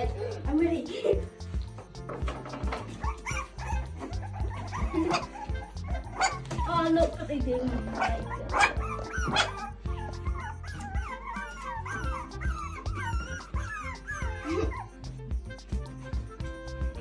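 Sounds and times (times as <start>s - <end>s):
background music with steady beat: 0.0s - 17.0s
puppies whimpering and yipping: 1.1s - 17.0s.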